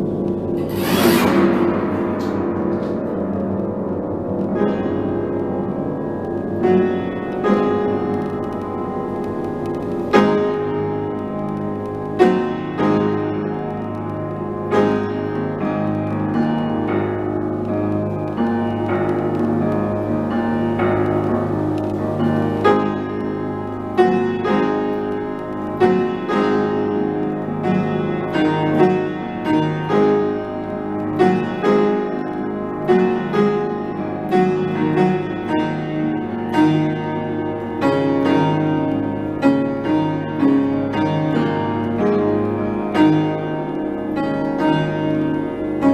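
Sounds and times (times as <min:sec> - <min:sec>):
piano playing: 0:00.0 - 0:45.9.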